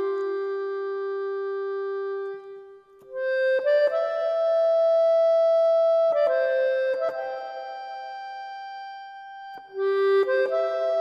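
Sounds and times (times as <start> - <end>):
slow music of held notes: 0.0 - 11.0.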